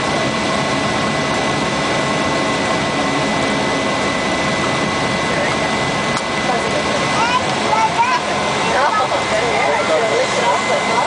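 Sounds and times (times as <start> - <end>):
high engine whine: 0.0 - 11.0
propeller engine roar: 0.0 - 11.0.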